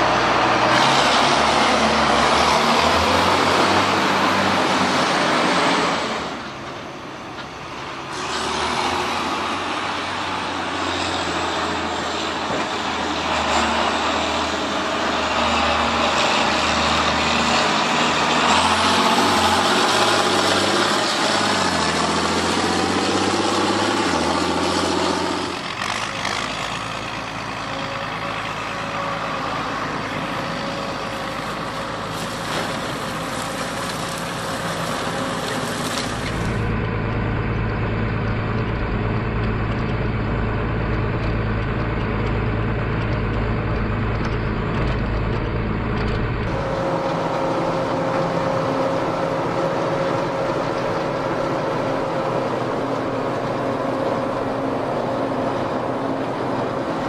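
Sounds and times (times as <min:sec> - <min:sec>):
heavy deep engine drone: 0:00.0 - 0:57.0
steady machinery noise: 0:00.0 - 0:57.0
tractor engine under load: 0:00.0 - 0:57.0.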